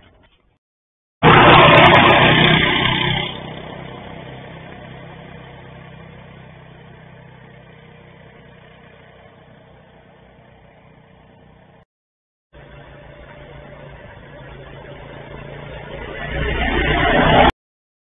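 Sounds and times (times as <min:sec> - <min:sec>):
quad bike engine driving away: 0:01.2 - 0:11.8, 0:12.6 - 0:17.5.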